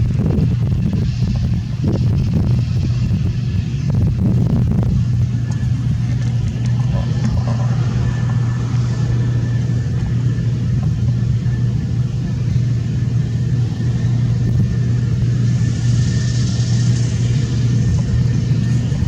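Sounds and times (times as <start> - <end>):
combine engine drone: 0.0 - 19.0
faint steady whine: 0.0 - 19.0.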